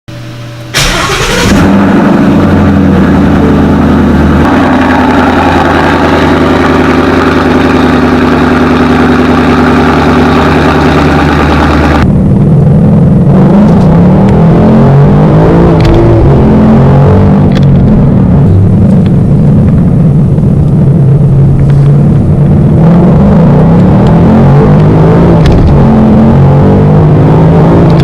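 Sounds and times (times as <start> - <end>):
car engine starting and running: 0.1 - 28.0.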